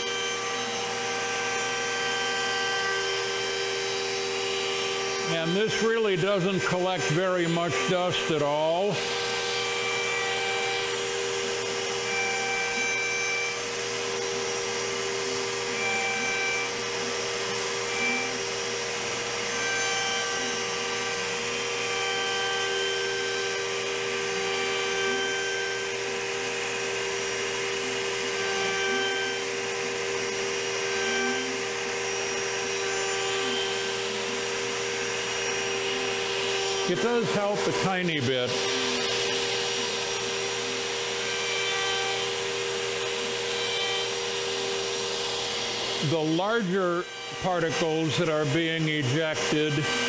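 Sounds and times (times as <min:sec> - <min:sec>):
bit cutting wood: 0:00.0 - 0:50.0
cnc router whine: 0:00.0 - 0:50.0
vacuum running: 0:00.0 - 0:50.0.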